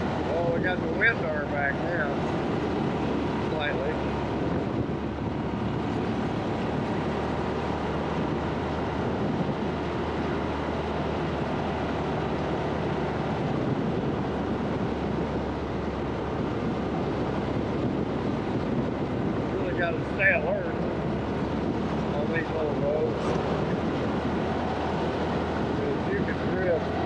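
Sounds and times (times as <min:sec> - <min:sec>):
wind rushing on microphone: 0:00.0 - 0:27.0.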